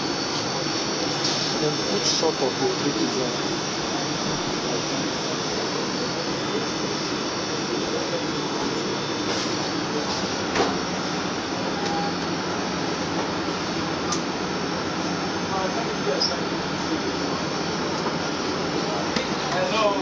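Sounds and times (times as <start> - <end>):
kitchen fans humming: 0.0 - 20.0.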